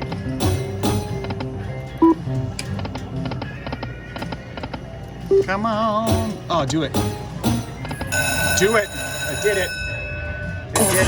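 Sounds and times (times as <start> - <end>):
plucked-string slot machine tune: 0.0 - 3.5, 5.3 - 11.0.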